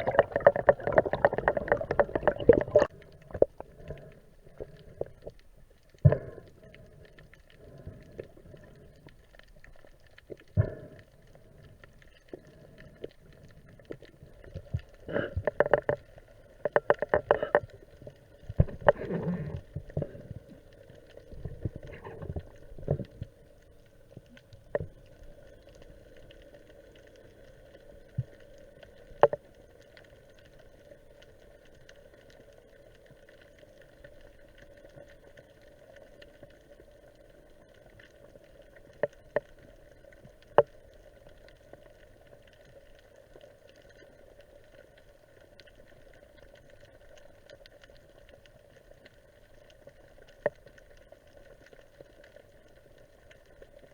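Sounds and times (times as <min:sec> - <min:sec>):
faint underwater hum: 0:00.0 - 0:53.9.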